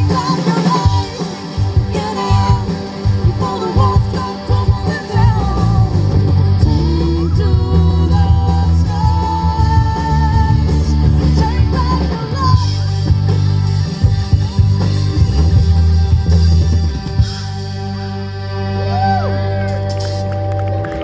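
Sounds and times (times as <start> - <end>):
guitar: 0.0 - 21.0
steady bass: 0.0 - 21.0.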